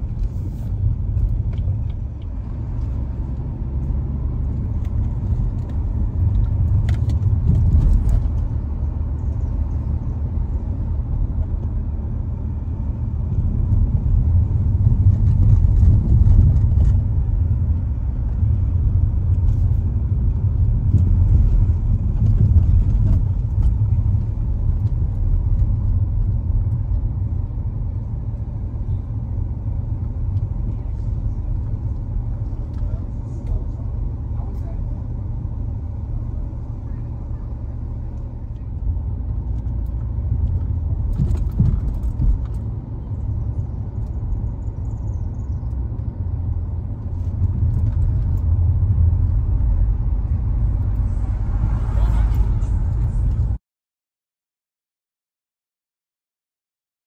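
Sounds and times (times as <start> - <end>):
car driving heard from inside: 0.0 - 53.6.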